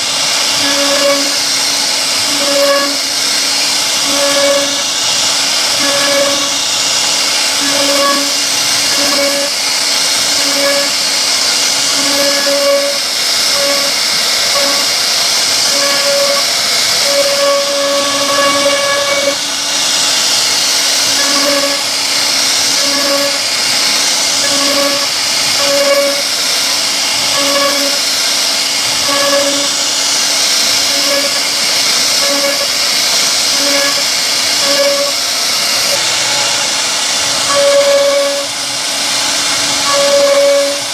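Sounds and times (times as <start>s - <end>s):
wood router cutting wood: 0.0s - 40.9s.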